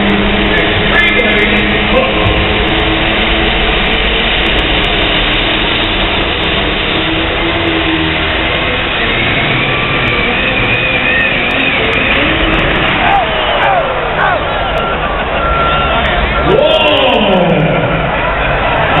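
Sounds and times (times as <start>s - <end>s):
diesel truck engine running hard: 0.0s - 19.0s.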